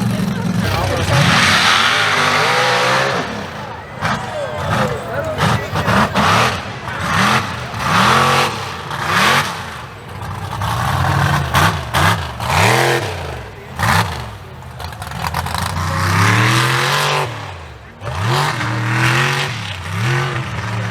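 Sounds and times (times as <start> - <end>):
truck engine revving hard: 0.0 - 20.9.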